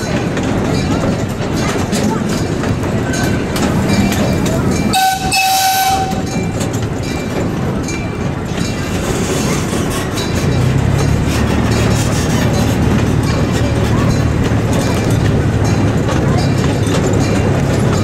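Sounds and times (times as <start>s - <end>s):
train rumbling on track: 0.0s - 18.0s
wheels clicking over rails: 0.0s - 18.0s.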